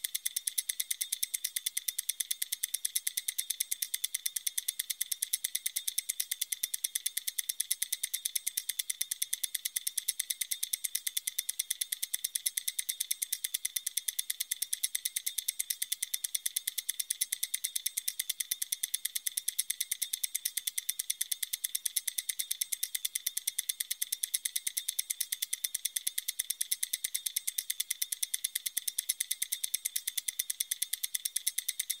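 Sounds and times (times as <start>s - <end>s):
stopwatch ticking: 0.0s - 32.0s.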